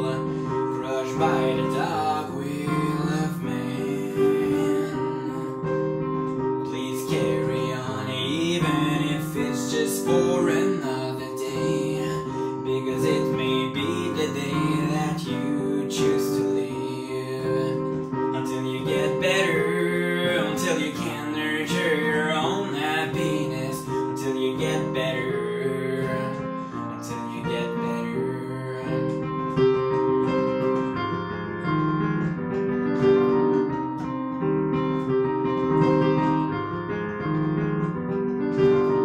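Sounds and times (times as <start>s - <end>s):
digital piano playing: 0.0s - 39.0s.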